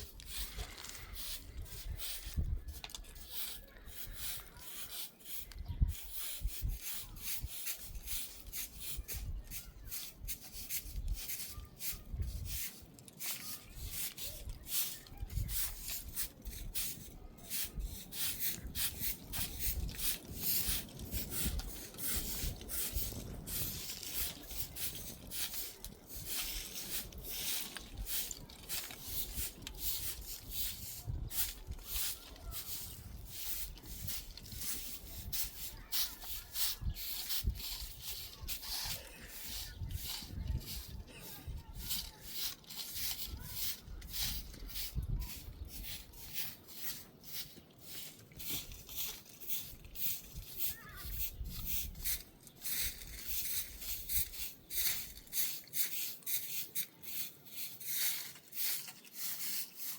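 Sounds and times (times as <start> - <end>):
rapid scraping strokes: 0.0 - 59.9.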